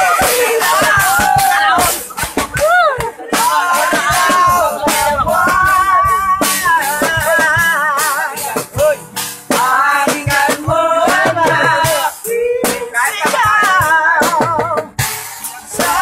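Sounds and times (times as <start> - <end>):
person singing with vibrato: 0.0 - 14.9, 15.5 - 16.0
drum beat: 0.0 - 16.0.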